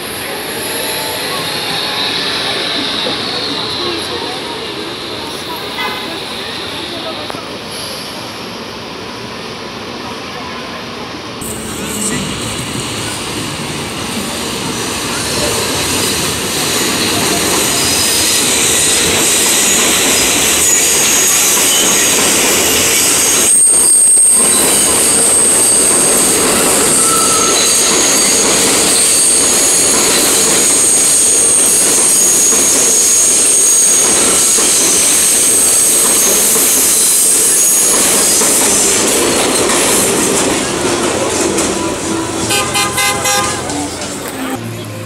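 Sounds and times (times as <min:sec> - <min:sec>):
train wheels squealing: 0:00.0 - 0:08.2, 0:14.2 - 0:42.6
subway train rumbling: 0:00.0 - 0:45.0.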